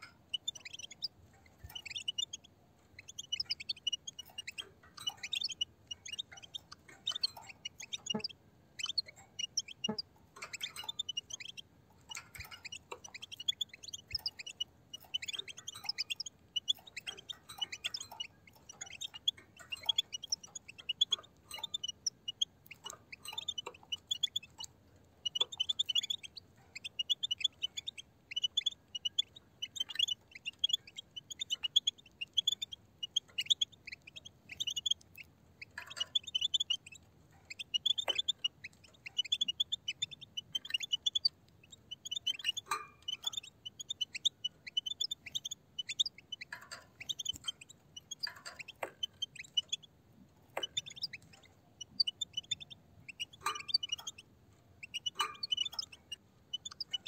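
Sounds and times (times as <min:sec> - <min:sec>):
flock of finches twittering: 0:00.1 - 0:49.9, 0:50.5 - 0:54.2, 0:54.8 - 0:57.0.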